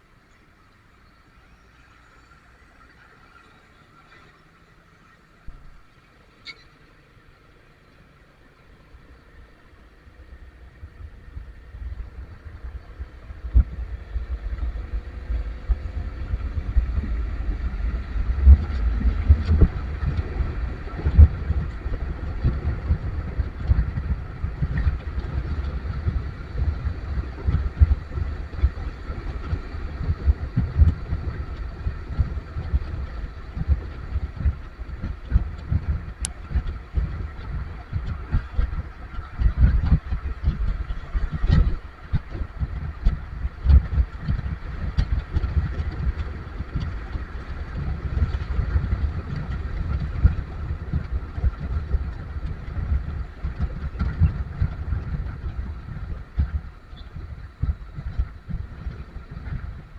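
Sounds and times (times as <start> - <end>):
road noise with low thumps: 0.0 - 59.9
vehicle engine running: 8.8 - 59.9.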